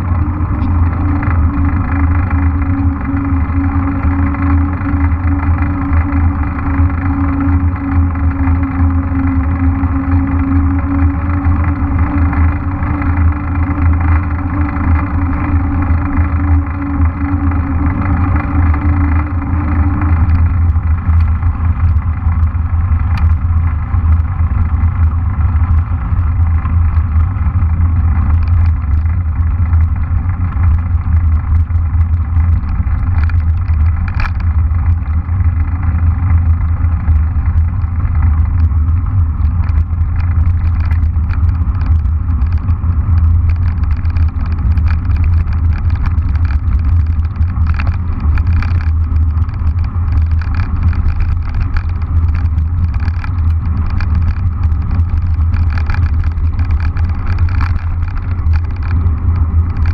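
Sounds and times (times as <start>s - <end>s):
wind buffeting microphone: 0.0s - 59.9s
bike knocks and rattles: 10.6s - 59.9s.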